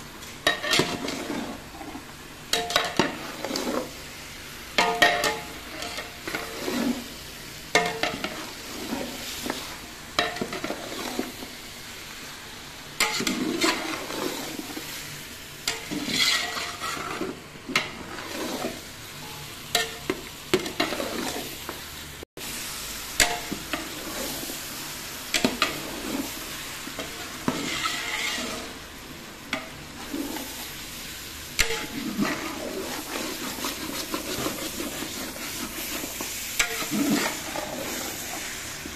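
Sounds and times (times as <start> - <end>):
chicken sizzling: 0.0 - 38.9
metal spatula scraping pot: 0.4 - 4.0, 4.8 - 11.6, 13.0 - 15.0, 15.6 - 21.7, 23.2 - 24.6, 25.3 - 28.8, 29.5 - 30.8, 31.6 - 38.5.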